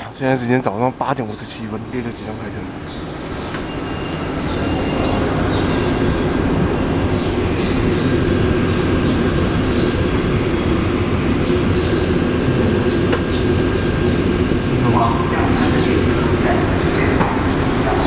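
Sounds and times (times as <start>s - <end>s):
faint steady high tones: 0.0s - 17.2s.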